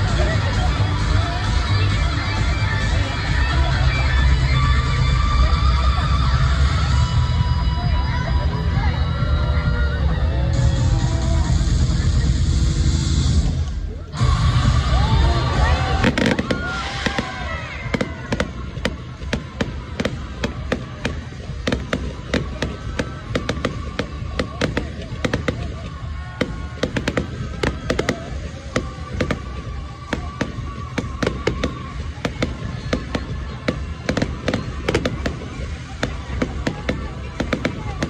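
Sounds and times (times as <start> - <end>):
constant low rumble: 0.0 - 38.0
fireworks bangs and crackles: 0.0 - 38.0
music playing: 0.0 - 38.0.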